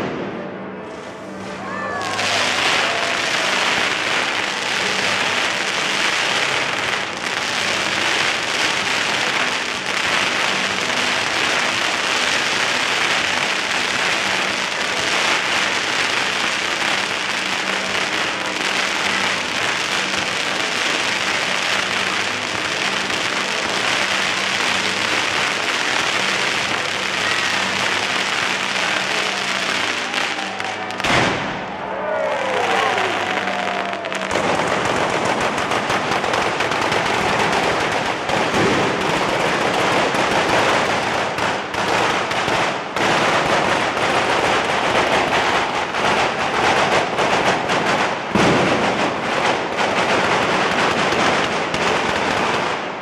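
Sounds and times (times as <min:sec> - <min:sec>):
fireworks crackling and hissing: 0:00.0 - 0:53.0.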